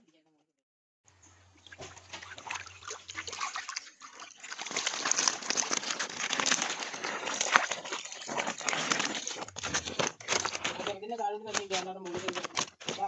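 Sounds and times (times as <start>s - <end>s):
fish thrashing and splashing: 1.2s - 13.0s.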